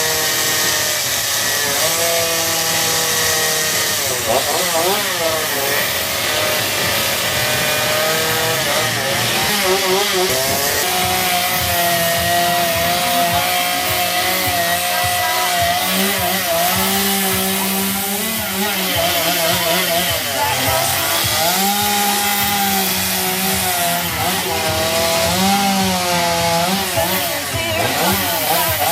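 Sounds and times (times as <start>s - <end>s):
chainsaw cutting log: 0.0s - 28.9s.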